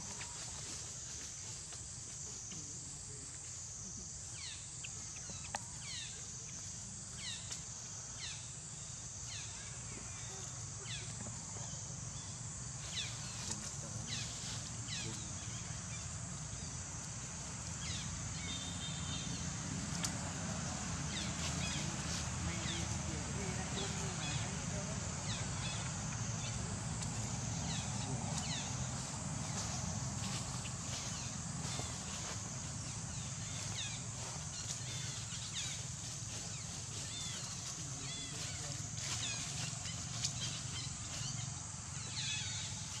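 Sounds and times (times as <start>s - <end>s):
high insect drone: 0.0s - 43.0s.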